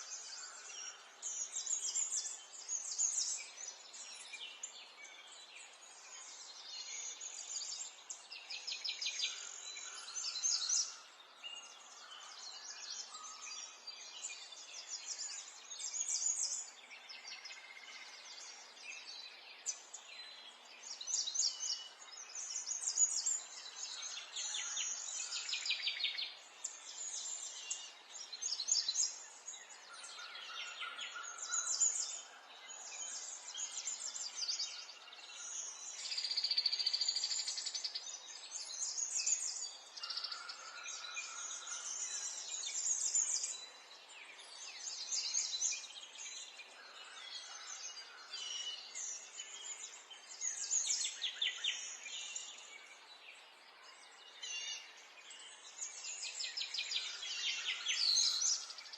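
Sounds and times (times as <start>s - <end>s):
faint outdoor hiss: 0.0s - 58.9s
songbirds singing and chirping: 0.0s - 58.9s.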